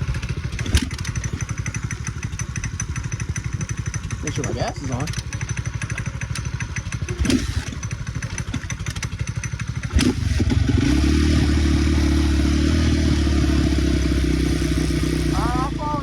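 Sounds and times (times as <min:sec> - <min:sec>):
dirt bike engine: 0:00.0 - 0:16.0.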